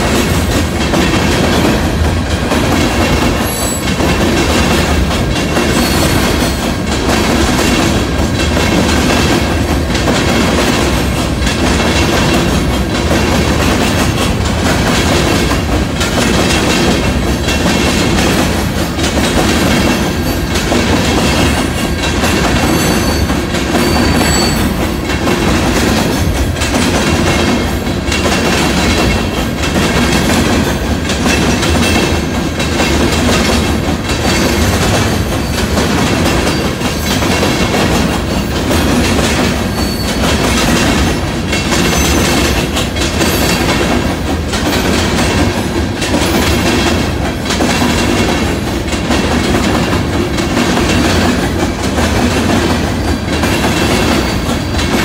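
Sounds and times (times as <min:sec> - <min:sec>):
train wheels rumbling on rail: 0:00.0 - 0:55.0
wheels clacking over rail joints: 0:00.0 - 0:55.0.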